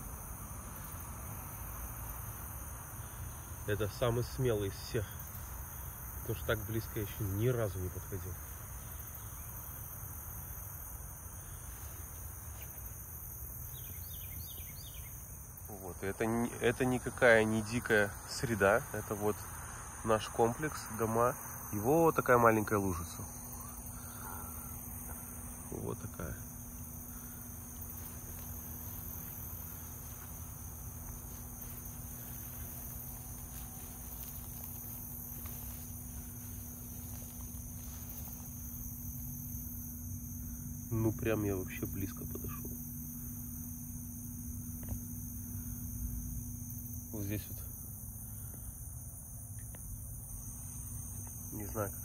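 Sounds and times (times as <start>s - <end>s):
faint steady hum: 0.0s - 52.0s
insects chirring: 0.0s - 52.0s.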